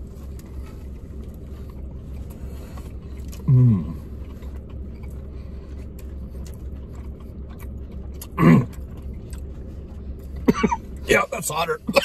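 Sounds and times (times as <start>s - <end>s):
low car hum: 0.0s - 12.0s
people chewing: 0.0s - 12.0s.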